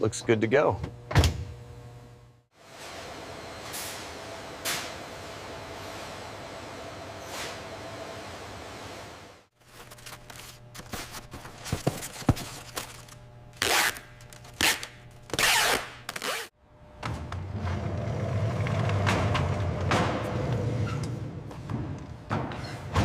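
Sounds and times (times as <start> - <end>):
low machine hum: 0.0 - 22.3.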